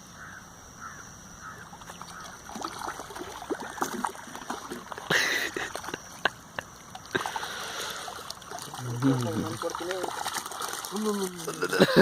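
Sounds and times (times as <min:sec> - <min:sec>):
water splashing and sloshing: 0:01.5 - 0:12.0.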